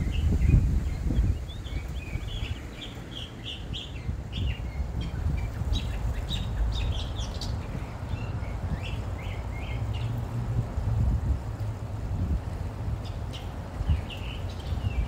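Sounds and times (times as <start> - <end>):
songbirds chirping and singing: 0.0 - 10.3, 13.0 - 15.0.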